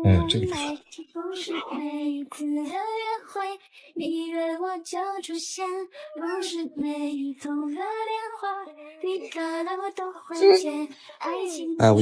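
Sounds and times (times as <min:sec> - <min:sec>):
high female voice singing: 0:00.0 - 0:12.0.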